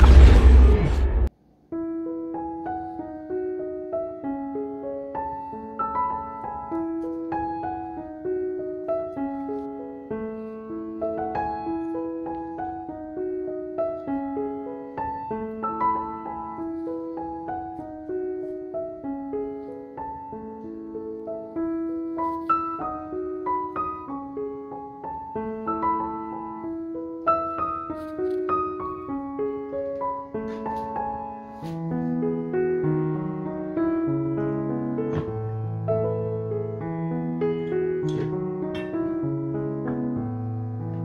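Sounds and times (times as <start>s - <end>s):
gentle piano melody: 1.3s - 41.0s.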